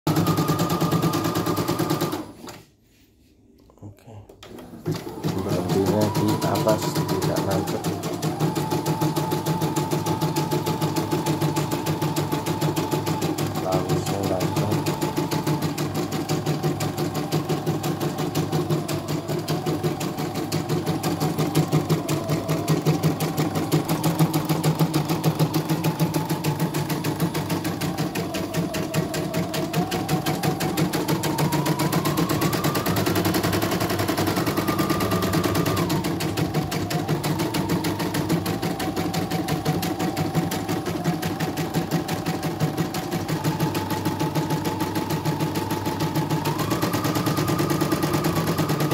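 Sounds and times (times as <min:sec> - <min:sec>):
embroidery machine stitching: 0:00.0 - 0:02.7, 0:04.3 - 0:48.9
motor whine: 0:04.5 - 0:48.9.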